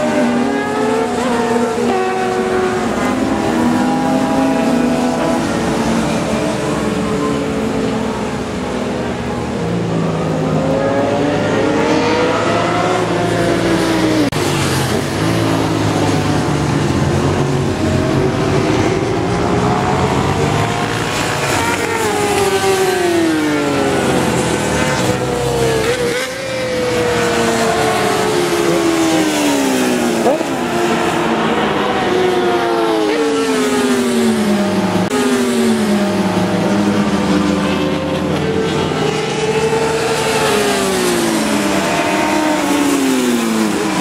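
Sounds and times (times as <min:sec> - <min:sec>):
racing motorcycle engines revving: 0:00.0 - 0:44.0.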